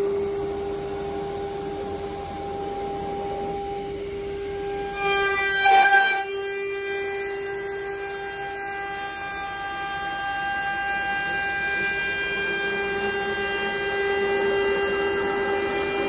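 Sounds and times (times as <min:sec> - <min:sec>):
router spindle high whine: 0:00.0 - 0:16.0.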